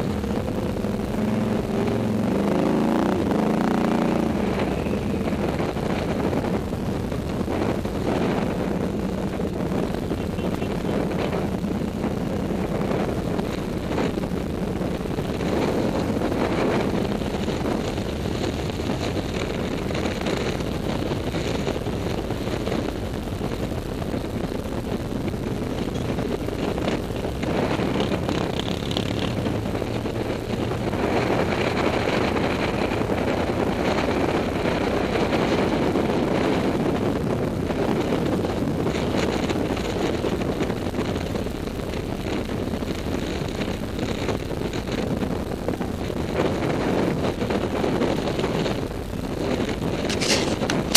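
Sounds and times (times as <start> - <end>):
atv engine running: 0.0 - 50.9
wind on microphone: 0.0 - 50.9.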